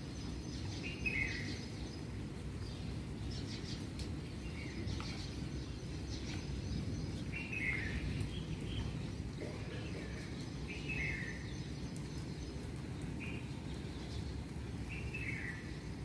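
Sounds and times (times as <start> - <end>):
rain on a wet street: 0.0 - 16.0.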